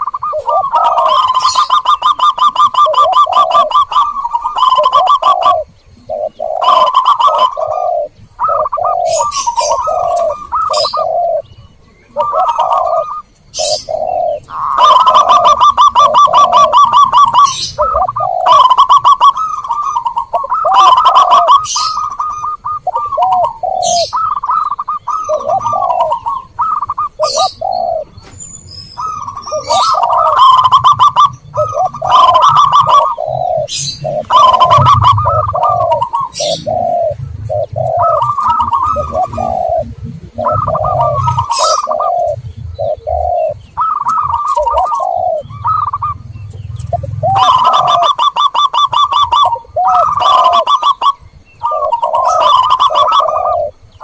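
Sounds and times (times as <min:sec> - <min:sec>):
doves cooing: 0:00.0 - 0:54.0
small birds chirping: 0:00.0 - 0:54.0.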